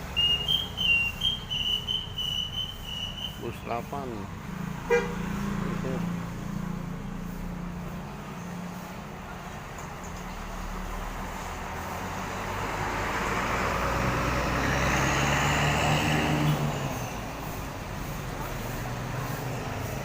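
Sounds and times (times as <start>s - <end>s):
bus diesel engine hum: 0.0s - 20.0s
road noise: 0.0s - 20.0s.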